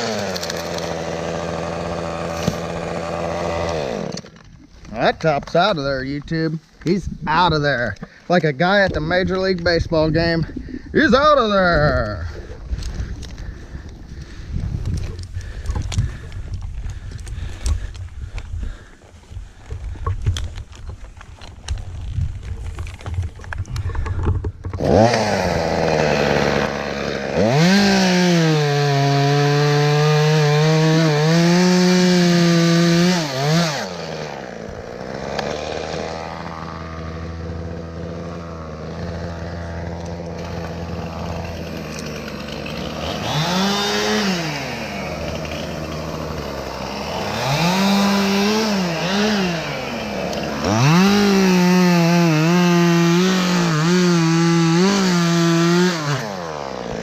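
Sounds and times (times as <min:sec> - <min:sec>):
chainsaw revving and cutting wood: 0:00.0 - 0:06.2, 0:10.1 - 0:20.8, 0:23.8 - 0:57.0.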